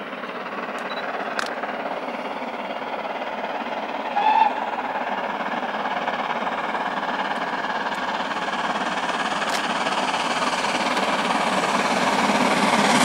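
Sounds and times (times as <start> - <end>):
steam locomotive exhaust: 0.0 - 13.0.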